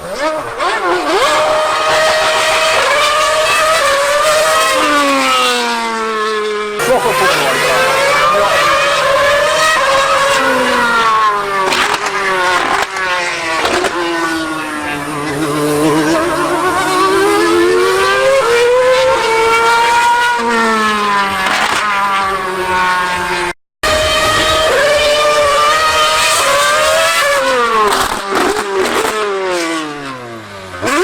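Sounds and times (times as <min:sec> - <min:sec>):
racing engine revving: 0:00.0 - 0:31.0.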